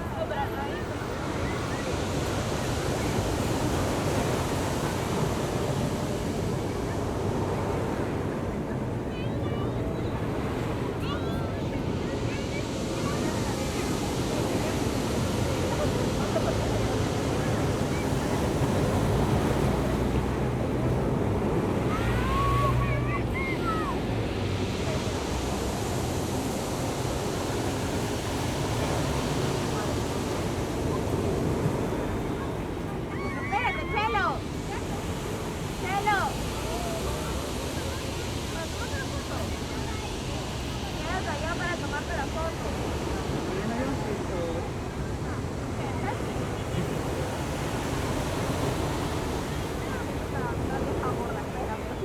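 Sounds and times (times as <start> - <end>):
ocean surf breaking: 0.0 - 52.0.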